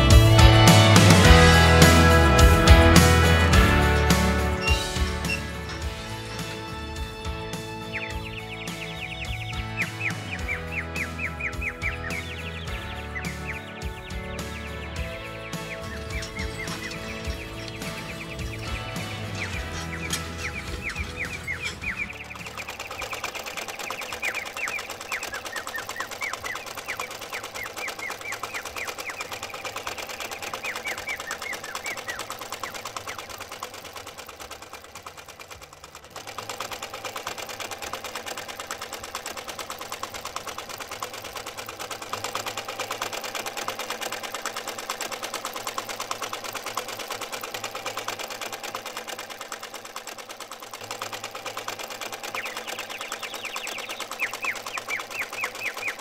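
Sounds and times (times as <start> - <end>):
small electric motor whirring: 0.0 - 56.0.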